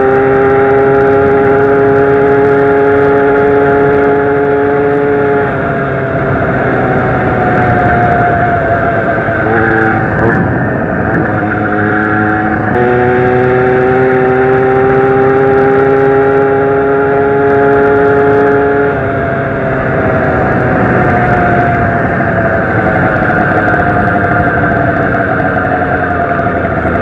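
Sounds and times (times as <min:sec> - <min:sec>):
moped engine running: 0:00.0 - 0:27.0.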